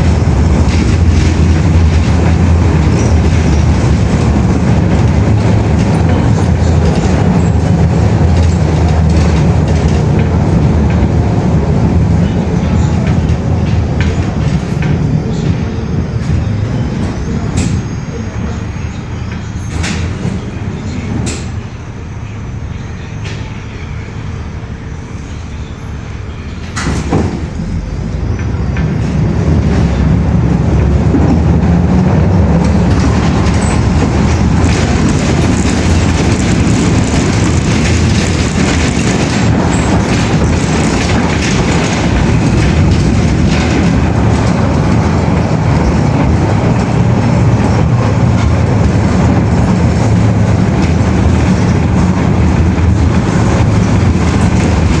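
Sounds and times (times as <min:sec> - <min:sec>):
moving vehicle rumbling: 0:00.0 - 0:55.0.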